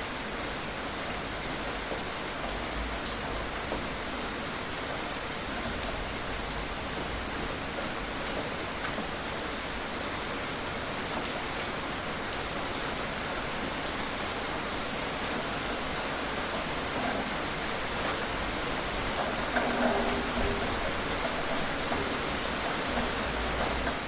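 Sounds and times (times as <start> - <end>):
gentle rain falling: 0.0 - 24.0.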